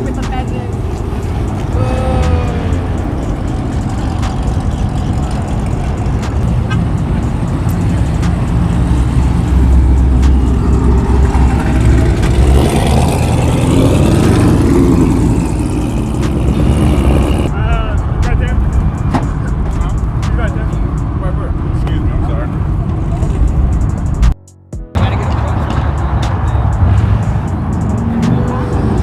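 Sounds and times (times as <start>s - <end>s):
car engines passing: 0.0s - 24.4s, 25.0s - 29.0s.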